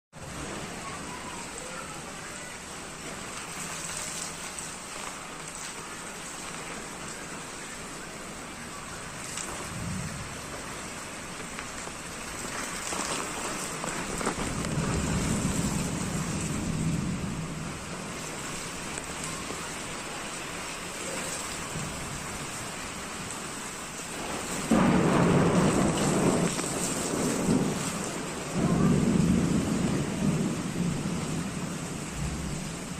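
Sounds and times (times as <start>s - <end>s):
heavy rain falling: 0.1s - 32.9s
thunder rumbling: 0.2s - 32.9s.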